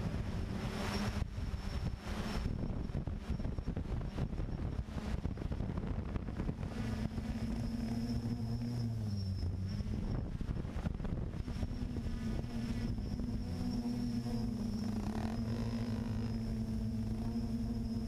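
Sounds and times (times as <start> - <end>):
drone propellers humming: 0.0 - 18.0
wind buffeting microphone: 0.0 - 18.0.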